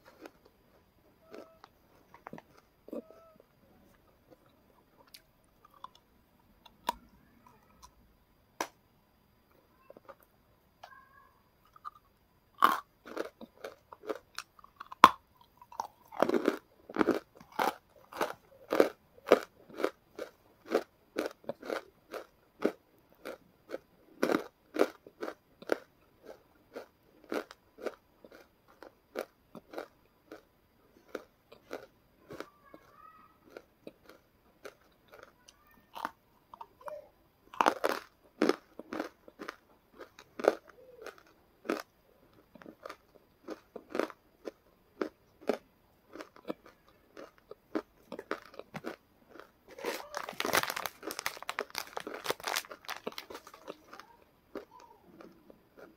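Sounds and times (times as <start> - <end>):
person chewing crunchy food: 0.0 - 8.0, 11.6 - 55.9.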